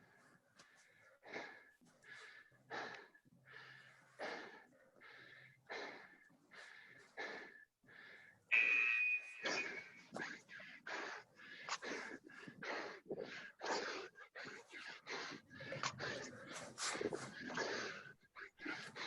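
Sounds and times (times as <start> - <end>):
heavy rhythmic breathing: 0.0 - 19.0
wheezy gasp: 0.6 - 19.0.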